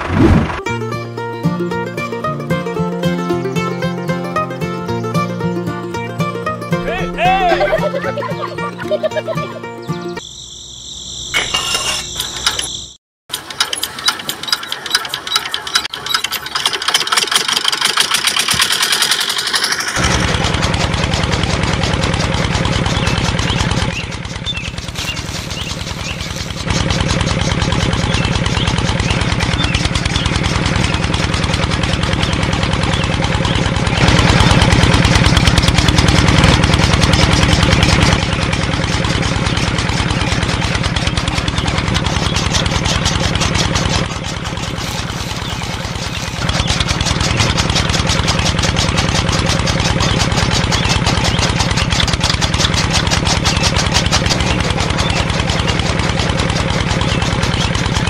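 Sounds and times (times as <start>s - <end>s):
small engine chugging: 1.8s - 58.0s
diesel engine hand-cranked clatter: 11.4s - 58.0s.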